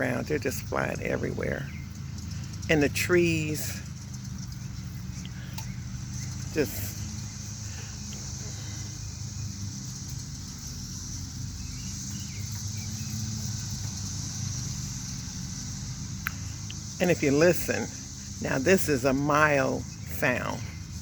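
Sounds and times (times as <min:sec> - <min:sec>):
cicadas humming: 0:00.0 - 0:21.0
low steady rumble: 0:00.0 - 0:21.0.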